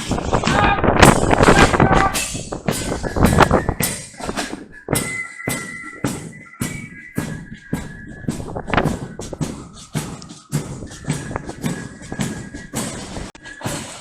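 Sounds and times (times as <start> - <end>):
marching drums: 0.0 - 14.0
flutes holding high notes: 0.1 - 14.0.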